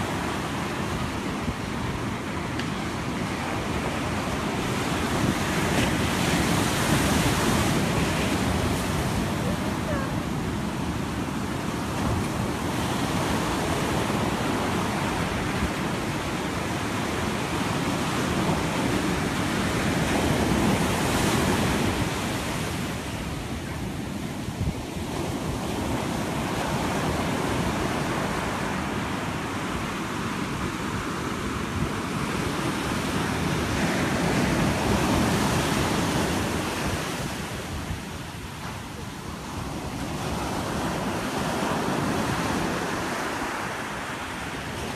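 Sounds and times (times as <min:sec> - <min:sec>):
ocean waves breaking on beach: 0:00.0 - 0:44.9.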